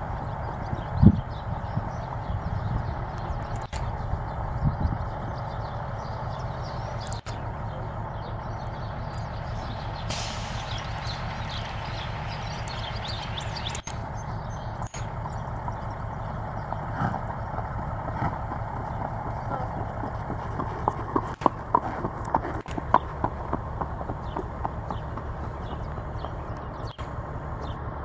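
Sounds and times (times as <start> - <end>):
hoofbeats on pavement: 0.0 - 28.0
truck engine rumbling: 0.0 - 28.0.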